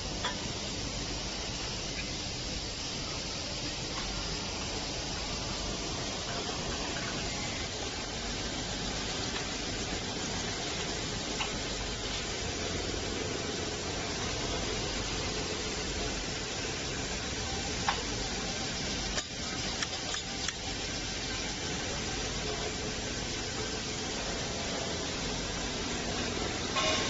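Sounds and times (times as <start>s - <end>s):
polishing machine abrasive hiss: 0.0s - 27.0s.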